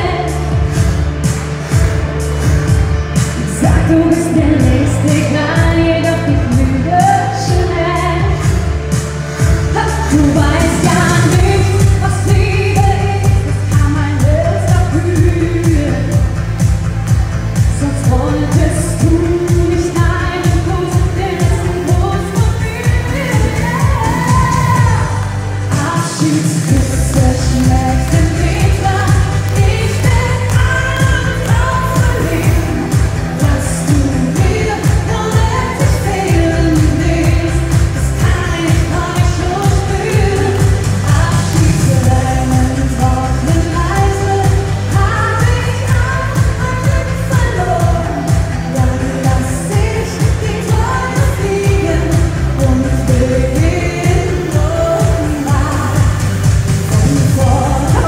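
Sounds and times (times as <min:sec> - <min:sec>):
dance music with heavy beat: 0:00.0 - 0:58.0
pop backing track: 0:00.0 - 0:58.0
person singing into a microphone: 0:03.4 - 0:08.8, 0:09.7 - 0:16.4, 0:17.7 - 0:58.0.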